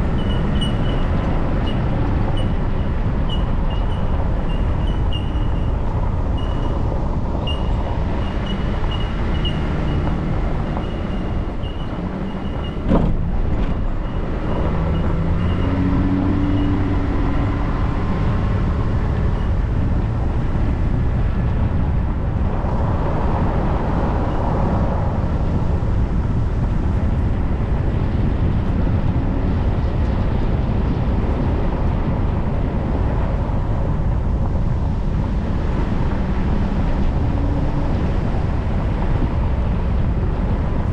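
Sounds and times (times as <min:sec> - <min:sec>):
vehicle driving on gravel: 0:00.0 - 0:40.9.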